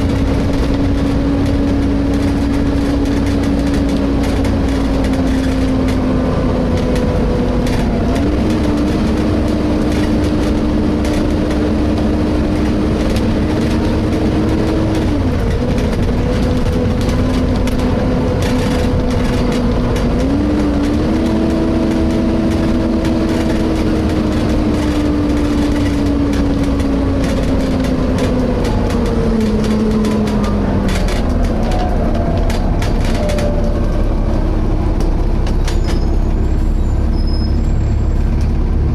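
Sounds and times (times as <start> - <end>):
bus engine running: 0.0 - 38.9
drivetrain whine: 0.0 - 38.9
road rumble: 0.0 - 38.9.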